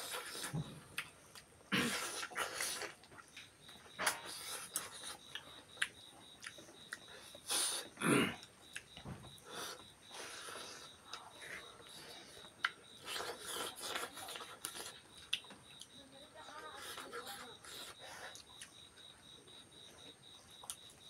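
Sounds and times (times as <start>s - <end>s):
chewing noises: 0.0s - 16.0s, 16.7s - 18.8s, 20.5s - 21.0s.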